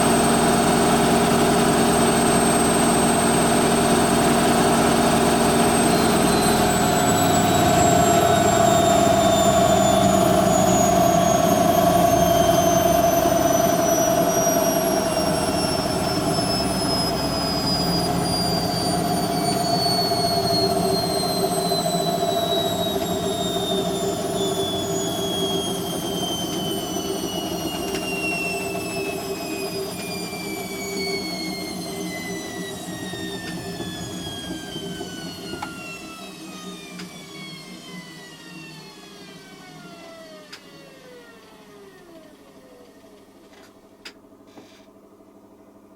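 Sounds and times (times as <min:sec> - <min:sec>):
washing machine spinning down: 0:00.0 - 0:45.9.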